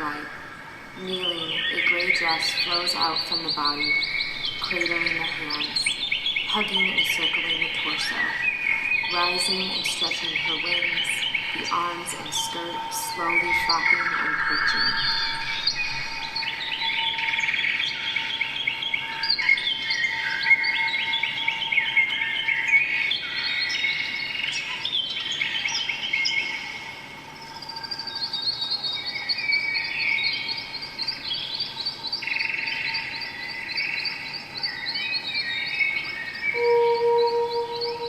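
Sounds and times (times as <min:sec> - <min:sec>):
faint steady tone: 0:00.0 - 0:22.8, 0:25.9 - 0:38.0
songbirds chirping and trilling: 0:00.0 - 0:38.0.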